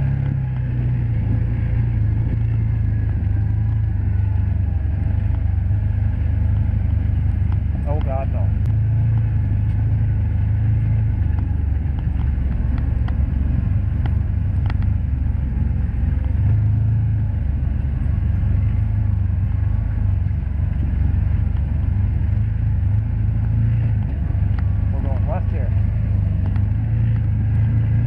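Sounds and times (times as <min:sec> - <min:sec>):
engine droning while driving: 0:00.0 - 0:28.0.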